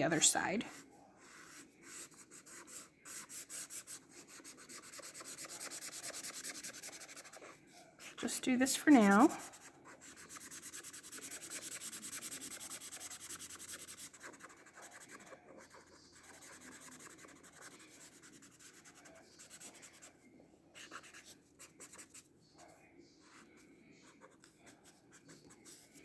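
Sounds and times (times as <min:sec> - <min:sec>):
marker scratching on paper: 0:00.0 - 0:20.1, 0:20.8 - 0:26.0.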